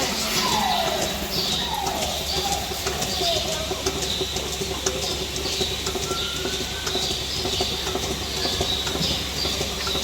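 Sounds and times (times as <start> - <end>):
chirping squeaks: 0.0 - 4.4, 5.0 - 10.0
machinery humming: 0.0 - 10.0.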